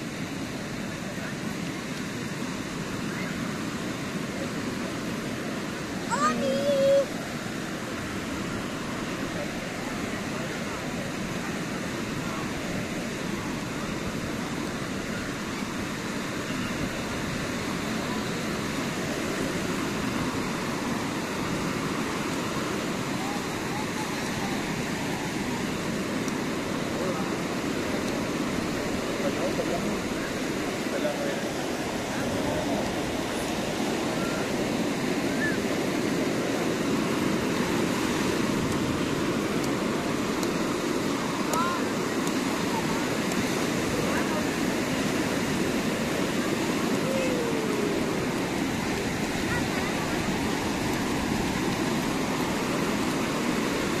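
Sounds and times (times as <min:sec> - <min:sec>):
surf breaking on a shore: 0:00.0 - 0:54.0
crowd chattering and calling: 0:04.2 - 0:37.6, 0:38.4 - 0:54.0.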